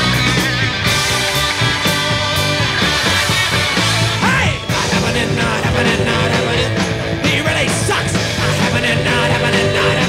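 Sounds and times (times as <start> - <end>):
drums: 0.0 - 10.0
electric guitar: 0.0 - 10.0.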